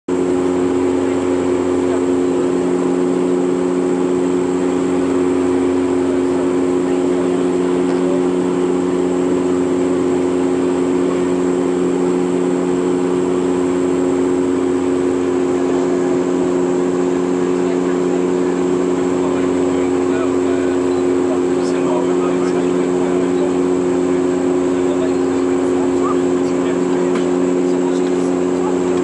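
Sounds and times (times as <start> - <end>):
propeller engine hum: 0.1 - 29.0.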